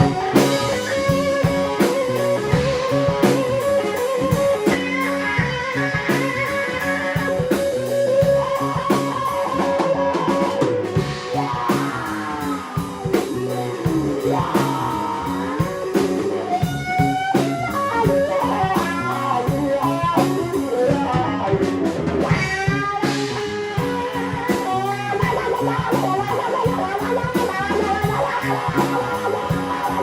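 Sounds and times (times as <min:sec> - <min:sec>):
drum kit steady beat: 0:00.0 - 0:30.0
electric bass: 0:00.0 - 0:30.0
electric guitar with string bends: 0:00.0 - 0:30.0.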